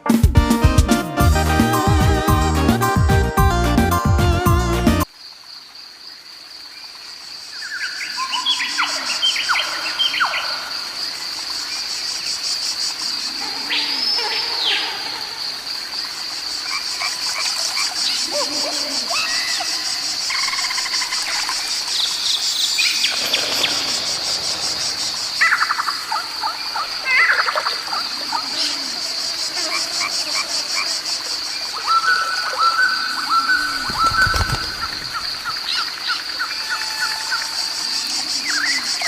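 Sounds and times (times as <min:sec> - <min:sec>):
insects trilling: 0:05.0 - 0:39.0.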